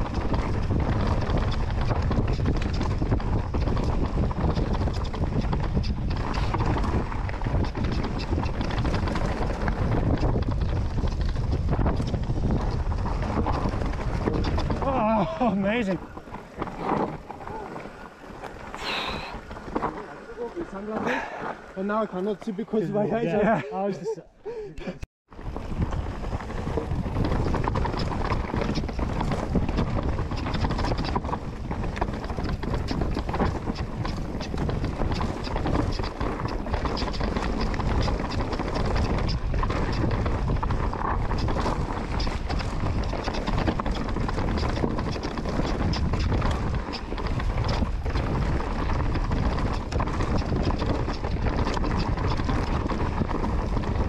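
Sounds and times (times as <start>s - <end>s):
wind rushing over microphone: 0.0s - 22.0s, 25.3s - 54.0s
bike rattles and knocks: 0.0s - 22.5s, 25.4s - 54.0s
tyres rumbling on trail: 0.0s - 54.0s.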